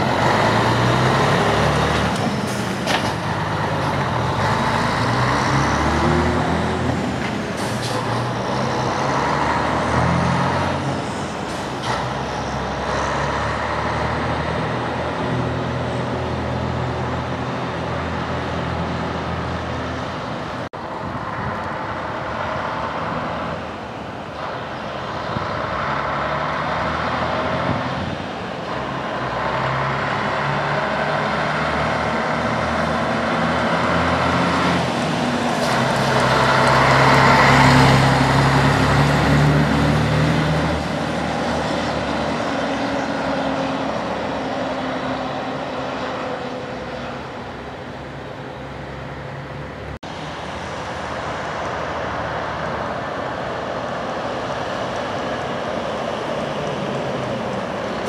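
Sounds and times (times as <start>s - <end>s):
truck diesel engine driving by: 0.0s - 58.0s.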